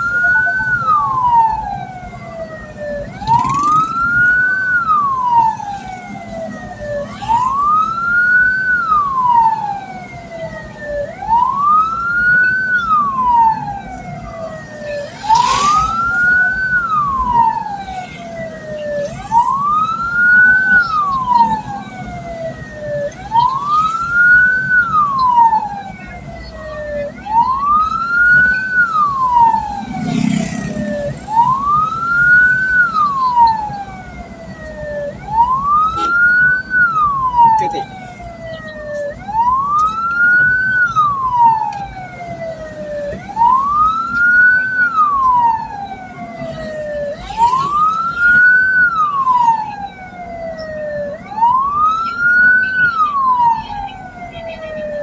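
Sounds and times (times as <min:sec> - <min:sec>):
road rumble: 0:00.0 - 0:55.0
siren wailing: 0:00.0 - 0:55.0
vehicle engine: 0:00.0 - 0:55.0.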